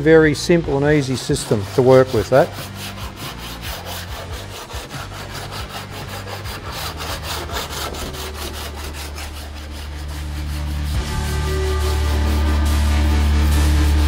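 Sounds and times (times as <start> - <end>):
file rasping across steel: 1.0 - 14.0.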